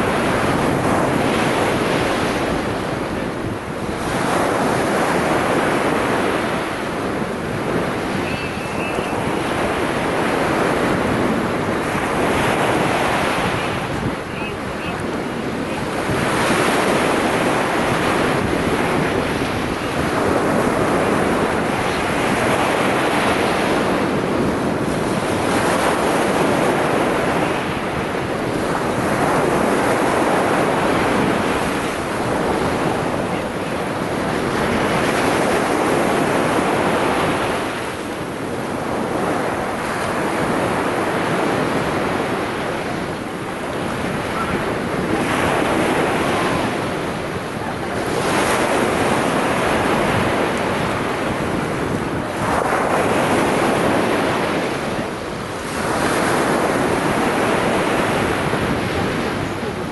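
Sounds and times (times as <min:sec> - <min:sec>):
small waves breaking on shore: 0:00.0 - 0:59.9.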